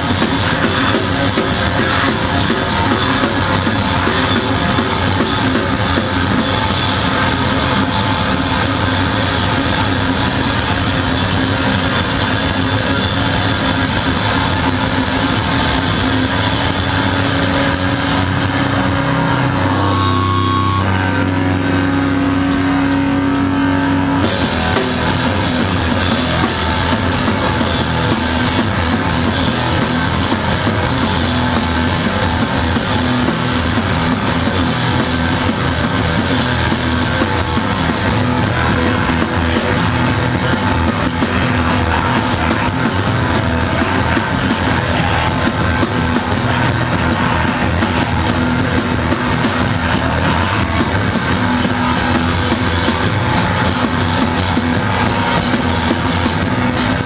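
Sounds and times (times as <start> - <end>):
drums with cymbal crashes: 0.0 - 18.8, 24.2 - 57.0
distorted electric guitar: 0.0 - 57.0.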